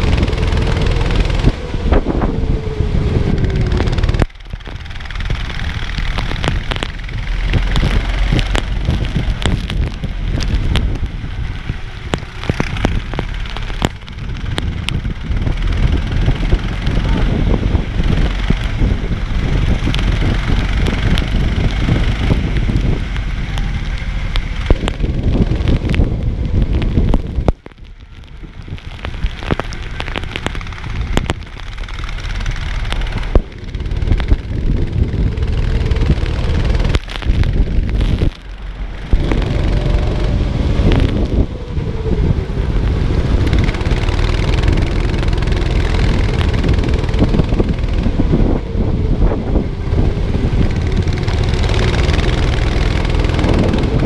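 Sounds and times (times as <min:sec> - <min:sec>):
go-kart engine running: 0:00.0 - 0:54.0
rushing wind and wet noise: 0:00.0 - 0:54.0.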